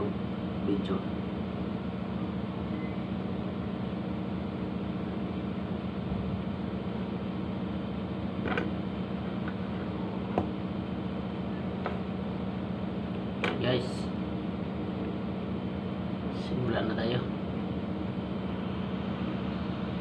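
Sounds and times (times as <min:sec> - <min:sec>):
mechanical hum with low drone: 0:00.0 - 0:20.0.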